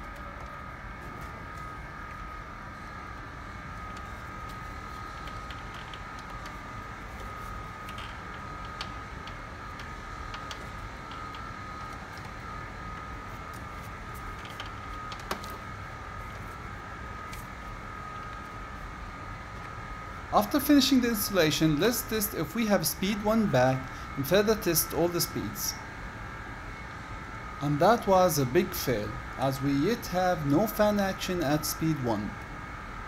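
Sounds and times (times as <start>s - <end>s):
steady high-pitched hum: 0.0s - 33.0s.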